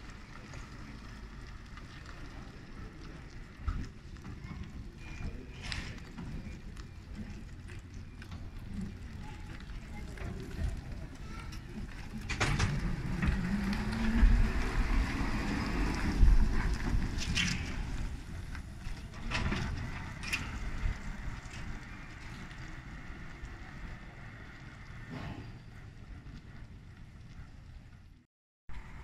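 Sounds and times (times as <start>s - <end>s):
low rumble: 4.8s - 29.0s.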